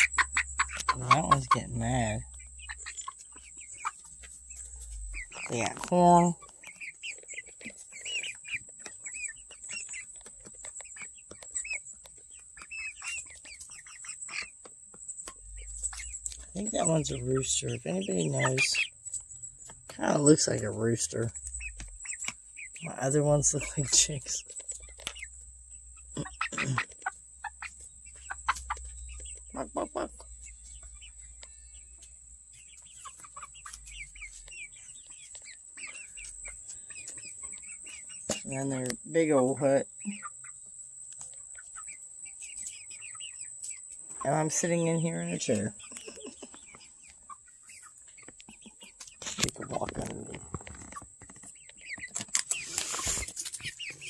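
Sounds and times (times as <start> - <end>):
beaks pecking at feed: 0.0 - 54.0
chickens peeping and clucking: 0.0 - 54.0.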